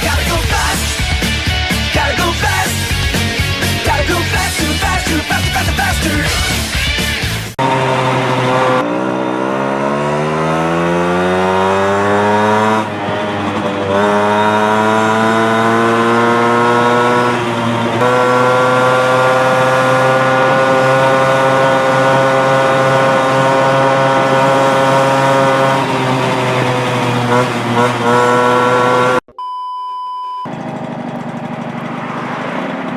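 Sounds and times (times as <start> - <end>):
moped engine revving: 0.0 - 29.2, 30.5 - 32.9.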